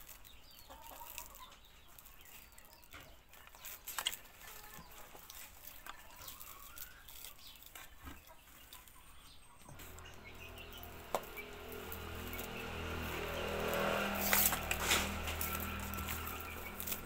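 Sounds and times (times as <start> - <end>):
broom bristles rustling: 0.0 - 17.0.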